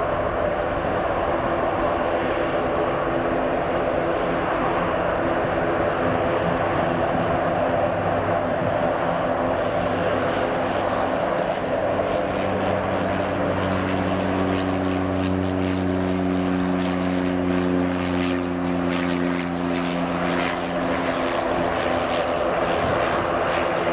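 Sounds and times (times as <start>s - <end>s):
jet airliner taking off: 0.0s - 23.9s.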